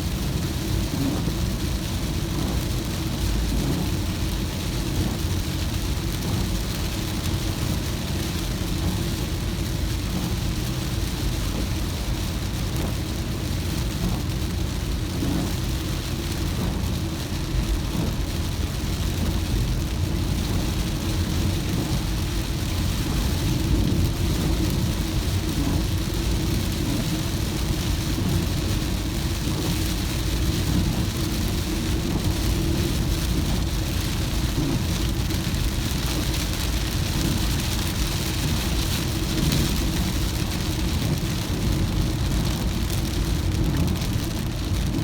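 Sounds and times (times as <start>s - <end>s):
car engine and road rumble: 0.0s - 45.0s
rain hiss: 0.0s - 45.0s.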